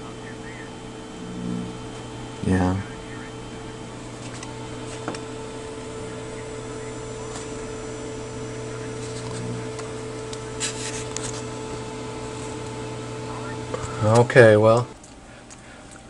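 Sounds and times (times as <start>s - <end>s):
low electronic equipment hum: 0.0s - 16.0s.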